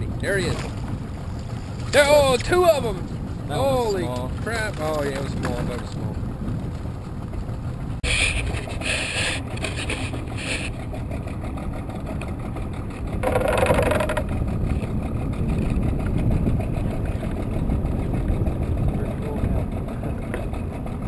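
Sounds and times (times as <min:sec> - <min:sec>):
outboard motor running slowly: 0:00.0 - 0:21.0.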